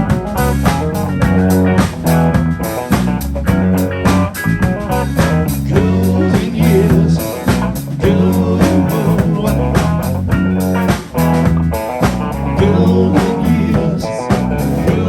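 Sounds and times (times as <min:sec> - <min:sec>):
blues-rock music with guitar: 0:00.0 - 0:15.0.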